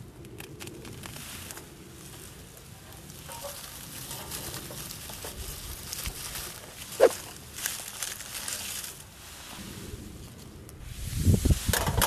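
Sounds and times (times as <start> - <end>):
dry grass and leaves rustling: 0.0 - 12.0.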